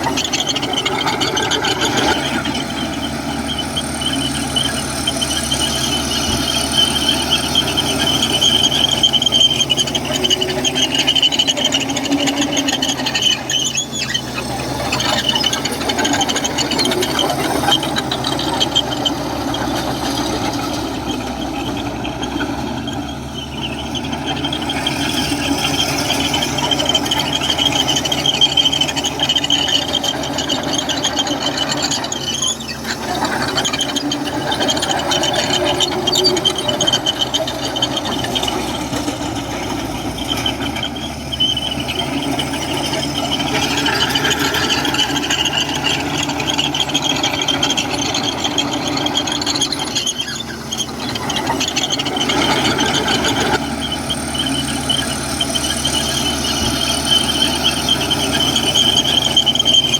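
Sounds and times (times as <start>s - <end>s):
bulldozer diesel engine: 0.0s - 59.9s
high-pitched metallic squeal: 0.0s - 59.9s
rattling and clanking: 0.0s - 59.9s.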